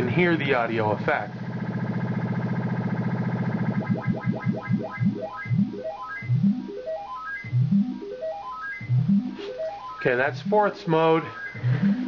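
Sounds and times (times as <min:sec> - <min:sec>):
synthesizer tone stepping in pitch: 0:00.2 - 0:12.0.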